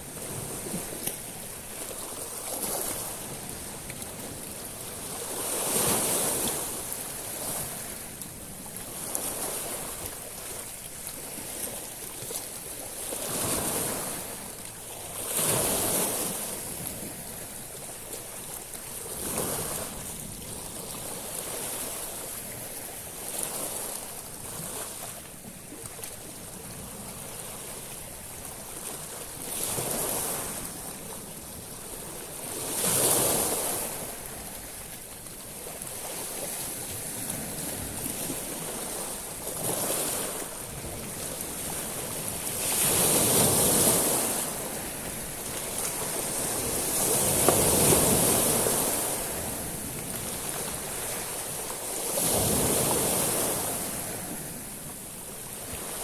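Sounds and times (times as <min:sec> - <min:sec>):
surf hiss: 0:00.0 - 0:56.0.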